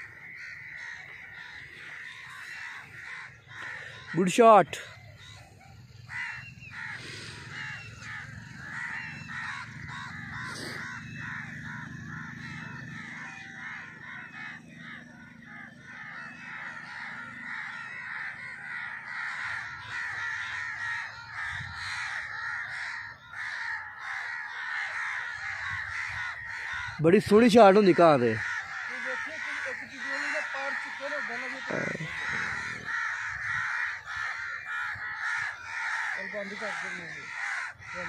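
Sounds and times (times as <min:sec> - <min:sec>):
many birds calling: 0:00.0 - 0:38.0.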